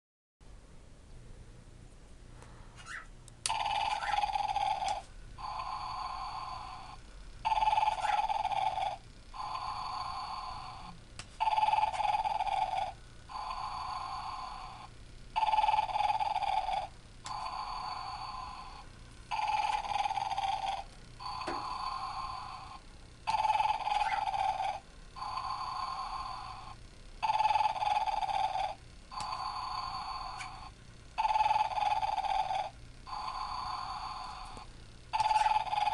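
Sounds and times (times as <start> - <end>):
electronic snoring: 2.8 - 35.9.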